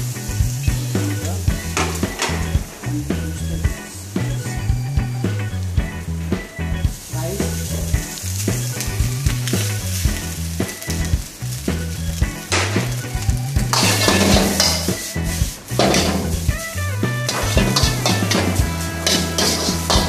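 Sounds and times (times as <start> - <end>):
food sizzling in a wok: 0.0 - 4.6, 6.9 - 20.0.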